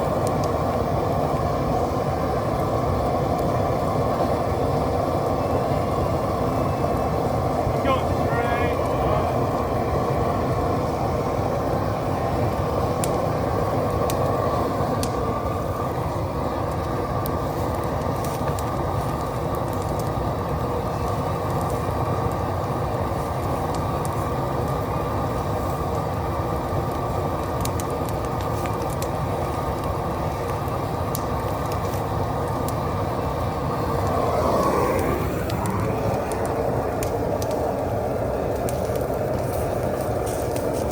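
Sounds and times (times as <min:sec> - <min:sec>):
dry wood popping and crackling: 0:00.0 - 0:40.9
roar of flame: 0:00.0 - 0:40.9.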